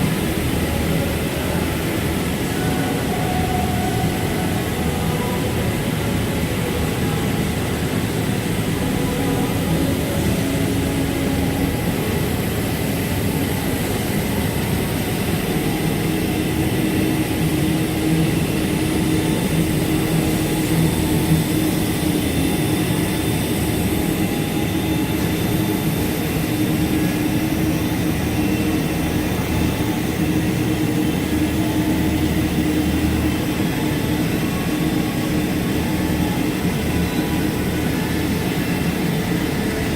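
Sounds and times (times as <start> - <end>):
cutting machine mechanical drone: 0.0 - 39.9.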